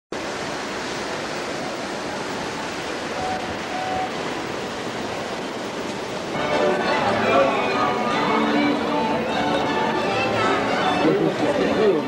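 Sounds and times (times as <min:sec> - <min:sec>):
steady rushing noise: 0:00.1 - 0:12.0.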